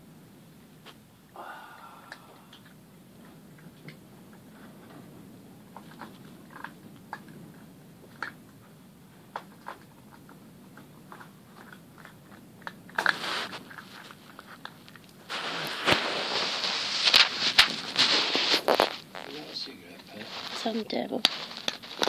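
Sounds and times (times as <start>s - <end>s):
puppy chewing food: 2.1s - 22.0s
rustling: 2.5s - 22.0s.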